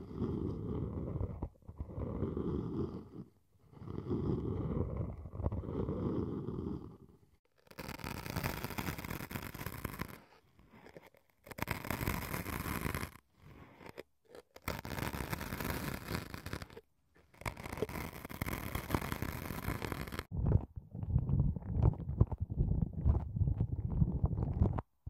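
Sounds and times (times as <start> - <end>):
pointed tips scratching foam: 0.0 - 24.9.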